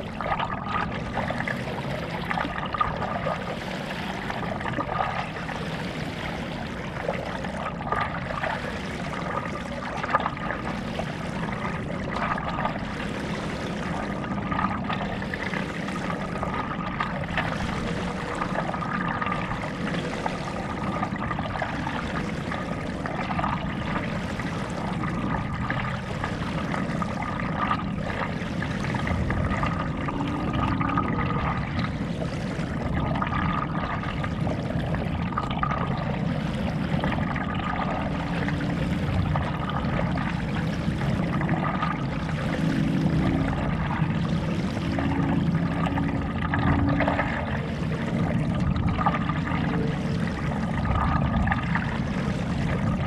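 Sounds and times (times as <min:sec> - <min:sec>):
paddle strokes in water: 0:00.0 - 0:53.0
water splashing and trickling: 0:00.0 - 0:53.0.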